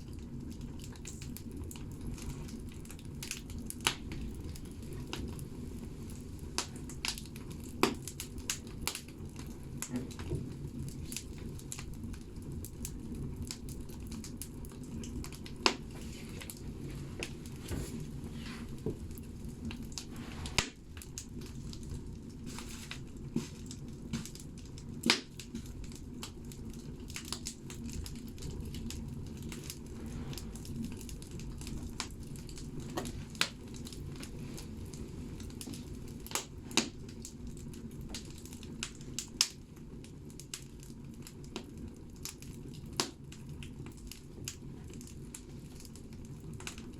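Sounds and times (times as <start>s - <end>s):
logs crackling and popping: 0.0s - 46.9s
low rumble of fire: 0.0s - 46.9s.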